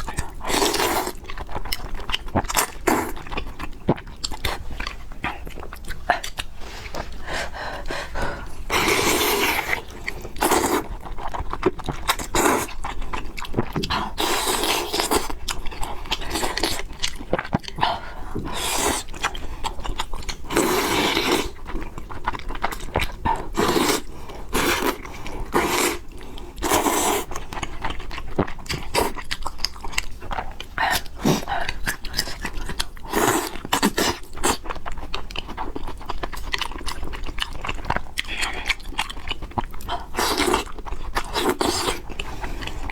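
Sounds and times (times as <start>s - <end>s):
person chewing and eating: 0.0s - 42.9s.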